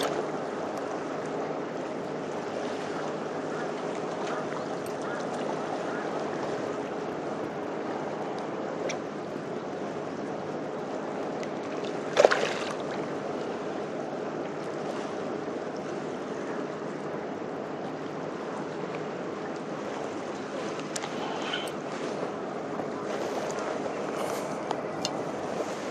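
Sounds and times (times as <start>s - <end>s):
water noise: 0.0s - 25.9s
wind: 0.0s - 25.9s.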